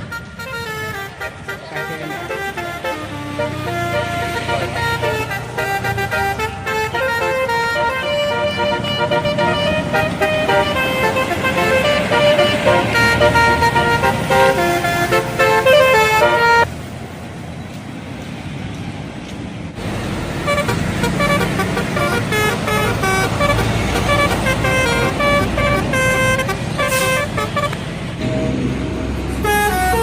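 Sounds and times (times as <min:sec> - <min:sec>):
bus horn playing a melody: 0:00.0 - 0:16.7, 0:20.4 - 0:30.0
traffic noise: 0:00.0 - 0:30.0.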